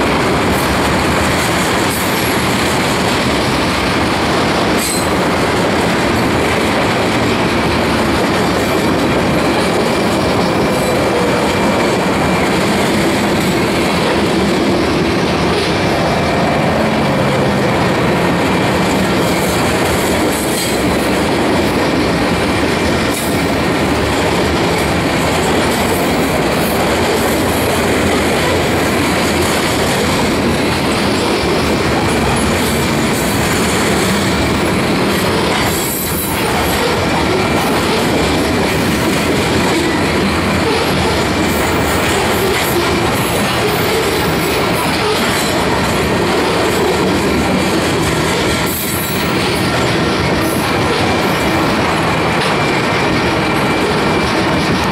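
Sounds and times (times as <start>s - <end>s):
freight train rolling past: 0.0s - 54.9s
steel wheels on rails: 0.0s - 54.9s.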